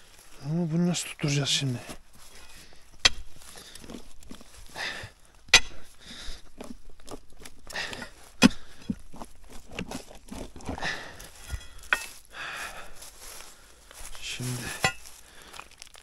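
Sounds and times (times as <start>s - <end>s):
footsteps and scuffing: 1.2s - 4.8s, 5.6s - 16.0s.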